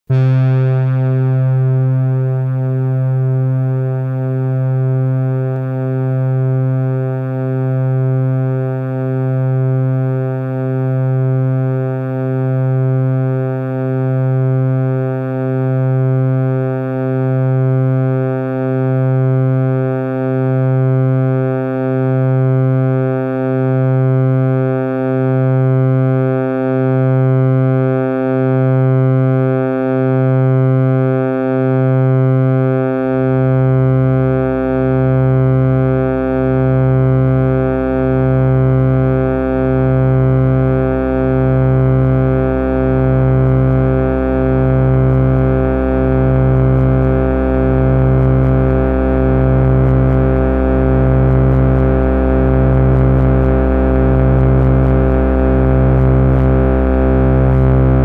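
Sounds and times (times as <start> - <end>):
synthesizer low steady note: 0.1 - 58.0.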